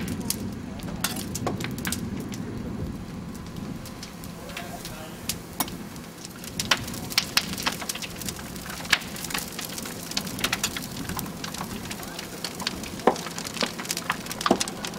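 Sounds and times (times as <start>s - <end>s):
crackling and popping of fire: 0.0s - 14.9s
fire burning with rushing flames: 0.0s - 14.9s.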